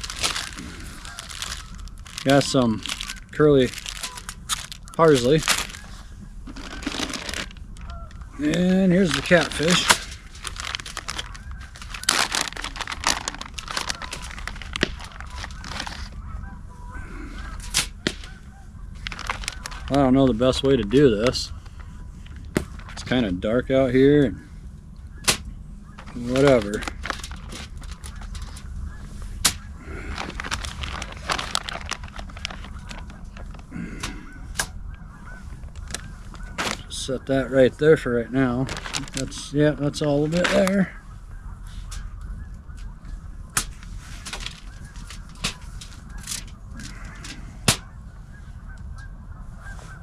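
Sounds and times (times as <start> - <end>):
packaging crinkling and rustling: 0.0 - 16.6, 17.3 - 24.0, 25.2 - 37.4, 38.3 - 40.9, 41.7 - 47.8
geese honking: 0.0 - 50.0.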